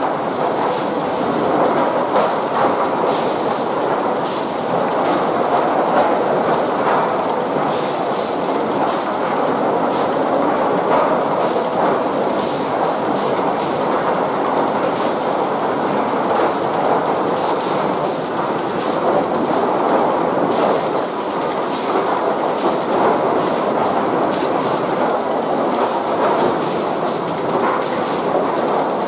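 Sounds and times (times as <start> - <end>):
chain conveyors and rollers din: 0.0 - 29.0.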